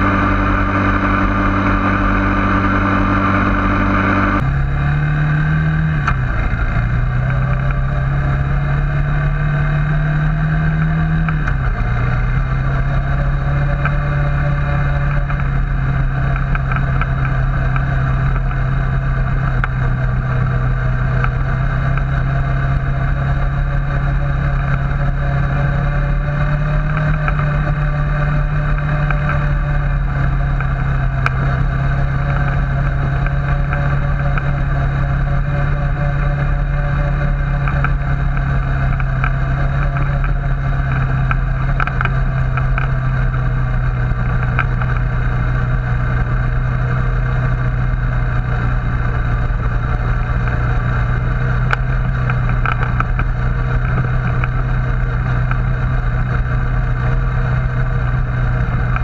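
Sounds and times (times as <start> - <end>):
atv engine droning: 0.0 - 59.0.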